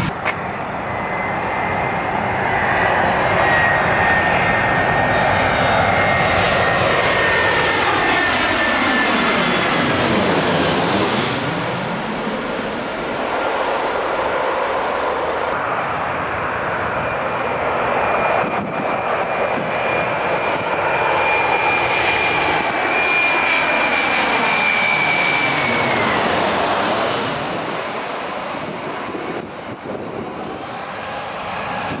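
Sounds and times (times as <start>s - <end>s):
jet airliner passing overhead: 0.0s - 32.0s.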